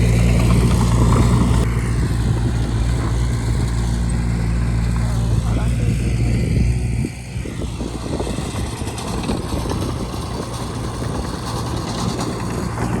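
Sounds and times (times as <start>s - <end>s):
bulldozer clattering and rumbling: 0.0s - 13.0s
bulldozer engine hum: 0.0s - 13.0s.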